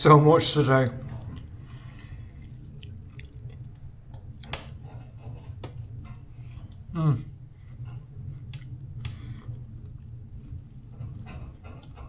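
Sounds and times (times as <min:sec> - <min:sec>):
man chewing food: 0:01.0 - 0:12.0.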